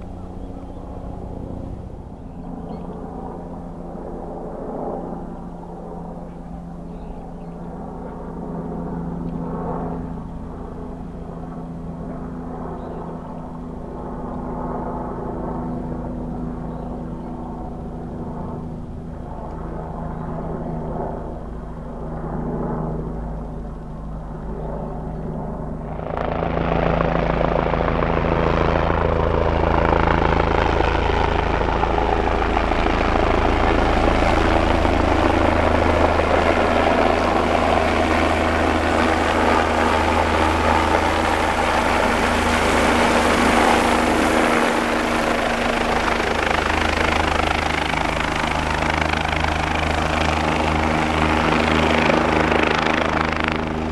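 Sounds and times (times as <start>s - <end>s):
helicopter rotor and engine noise: 0.0s - 53.9s
high turbine whine: 0.0s - 53.9s.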